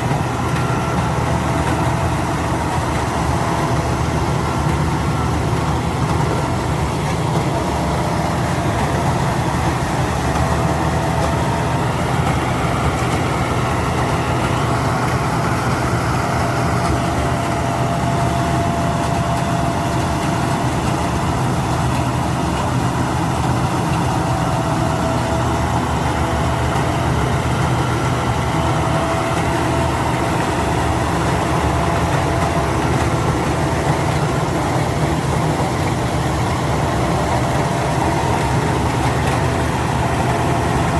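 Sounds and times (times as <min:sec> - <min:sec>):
low engine drone: 0:00.0 - 0:40.9.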